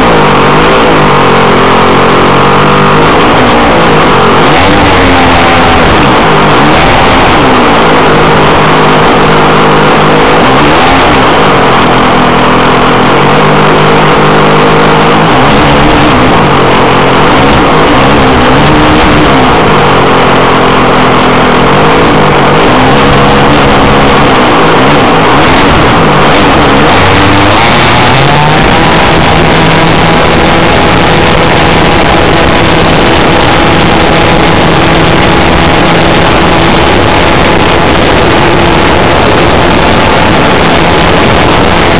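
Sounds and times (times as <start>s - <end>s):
model aircraft engine running: 0.0s - 41.9s.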